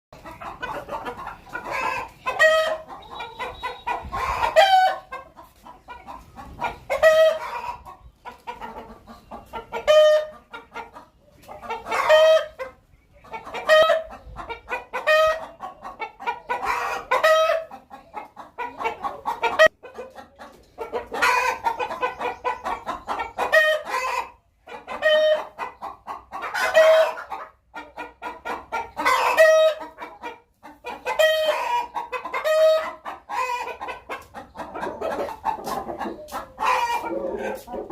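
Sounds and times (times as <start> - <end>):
hen clucking and calling: 0.2 - 37.9.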